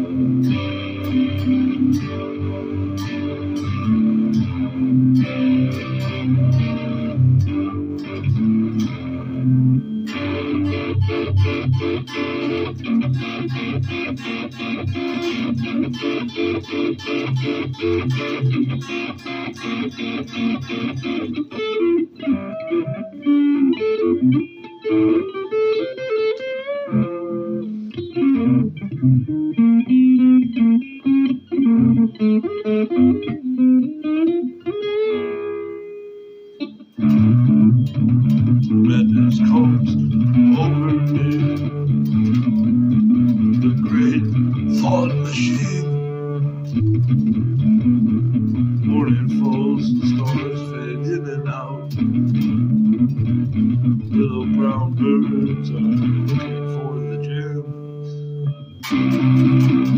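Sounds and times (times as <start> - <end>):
solo electric guitar: 0.0 - 59.9.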